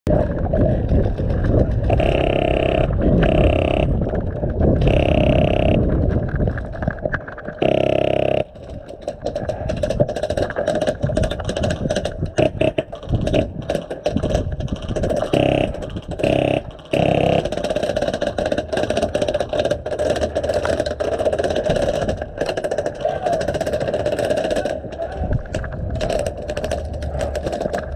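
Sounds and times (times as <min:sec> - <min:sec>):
wind rumbling on microphone: 0:00.1 - 0:27.9.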